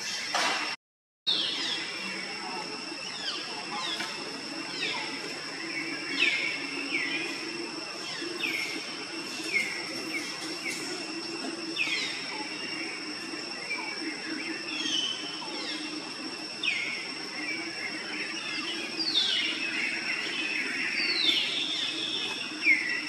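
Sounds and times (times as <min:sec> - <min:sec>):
steady high whine: 0:00.0 - 0:23.0.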